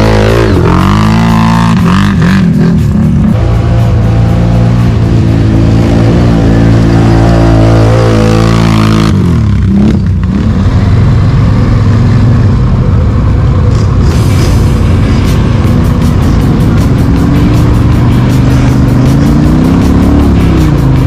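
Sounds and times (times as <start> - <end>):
atv engine revving: 0.0 - 21.0.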